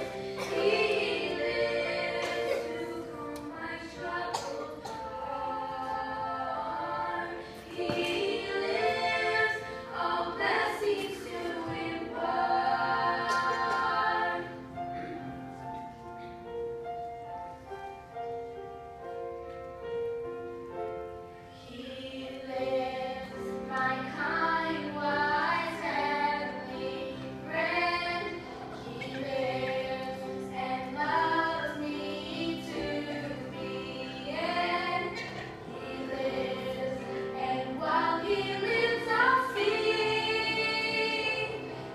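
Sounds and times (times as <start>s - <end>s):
women singing together: 0.0s - 15.1s, 21.6s - 41.9s.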